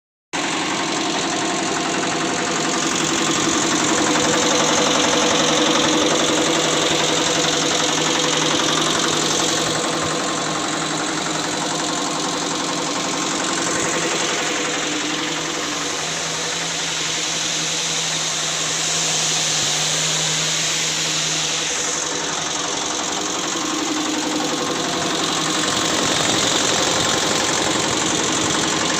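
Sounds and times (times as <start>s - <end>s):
diesel engine running: 0.4s - 28.9s
jet pump hissing: 0.4s - 28.9s.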